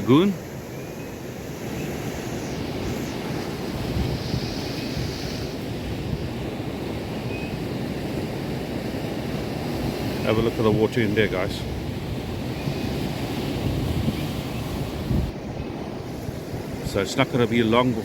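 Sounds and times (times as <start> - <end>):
surf washing: 0.0 - 18.0
wind buffeting microphone: 0.0 - 18.0.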